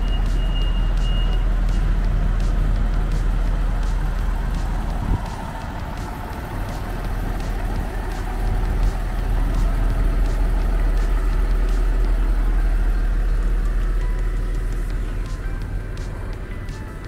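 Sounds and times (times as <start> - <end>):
train diesel engine rumbling: 0.0 - 17.0.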